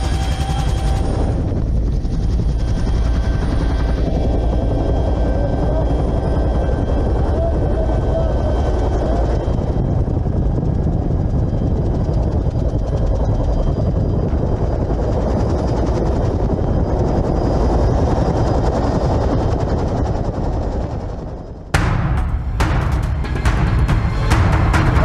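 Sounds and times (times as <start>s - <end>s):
helicopter rotor and turbine rumble: 0.0s - 25.0s.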